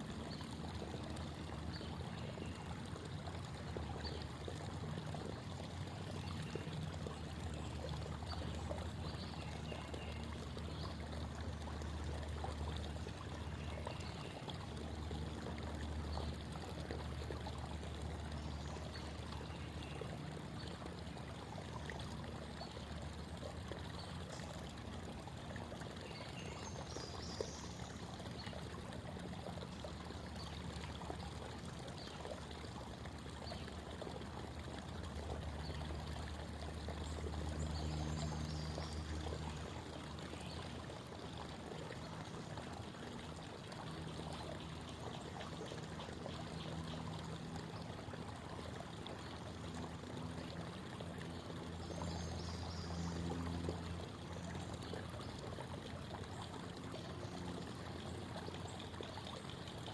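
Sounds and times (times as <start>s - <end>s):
creek water babbling over stones: 0.0s - 59.9s
deep water gurgle: 0.0s - 59.9s.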